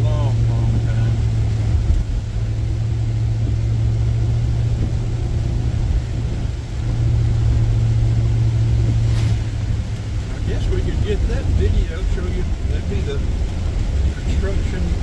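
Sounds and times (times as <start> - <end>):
car engine and road drone: 0.0 - 15.0
tyre noise on wet road: 0.0 - 15.0.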